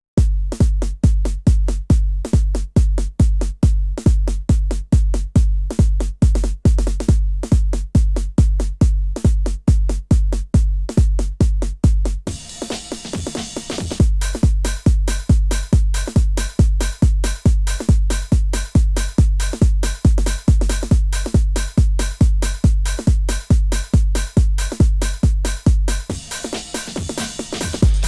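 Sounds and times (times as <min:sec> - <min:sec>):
deep kick drum pounding: 0:00.2 - 0:28.0.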